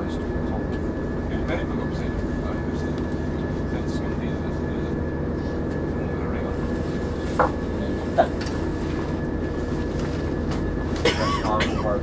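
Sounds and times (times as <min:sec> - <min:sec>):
train engine and wheels rumbling: 0:00.0 - 0:12.0.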